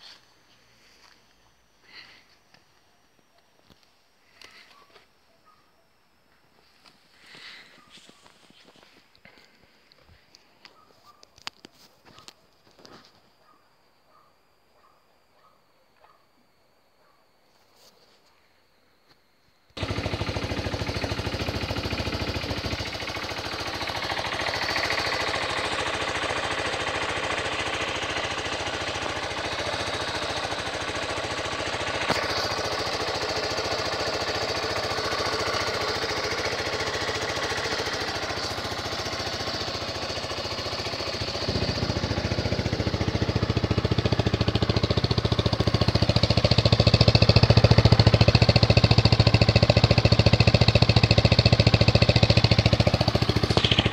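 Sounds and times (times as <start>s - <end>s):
motorcycle engine idling: 0.0s - 5.6s, 7.1s - 12.3s, 19.8s - 53.9s.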